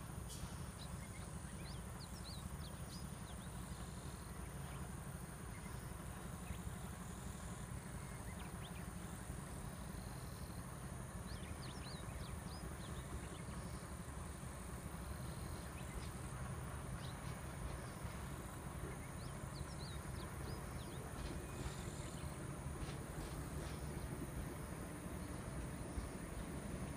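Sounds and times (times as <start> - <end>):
low steady rumble: 0.0 - 26.9
insects buzzing: 0.2 - 26.9.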